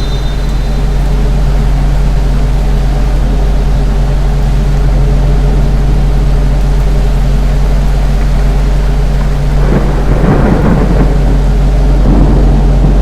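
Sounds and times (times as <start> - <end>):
ceiling fan humming: 0.0 - 13.0
rush of noise: 0.0 - 13.0.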